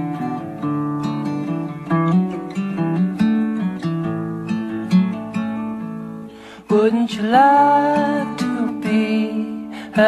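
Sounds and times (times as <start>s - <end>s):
acoustic guitar playing chords: 0.0s - 10.0s.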